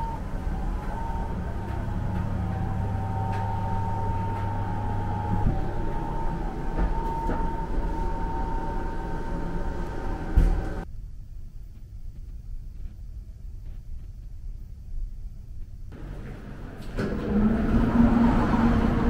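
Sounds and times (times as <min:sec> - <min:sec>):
faint high hum: 0:00.0 - 0:19.0
low mechanical rumble: 0:00.0 - 0:19.0.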